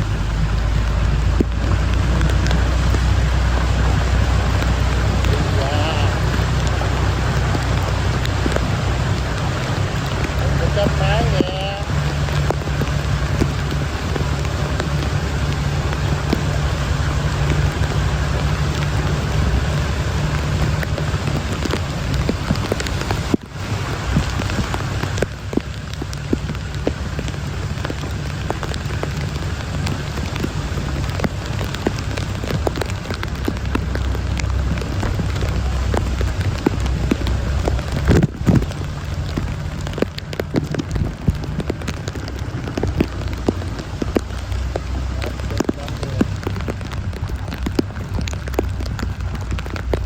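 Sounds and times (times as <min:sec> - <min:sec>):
close raindrop hits: 0:00.0 - 0:50.0
heavy rain pouring: 0:00.0 - 0:50.0
low rumble: 0:00.0 - 0:50.0.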